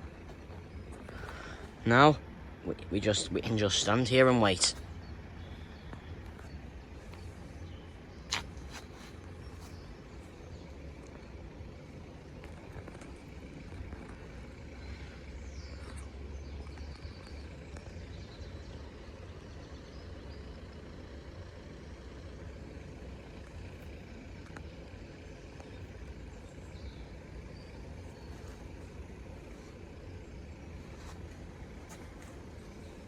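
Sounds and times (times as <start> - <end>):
faint bird chirps: 0.0 - 33.0
low outdoor rumble: 0.0 - 33.0.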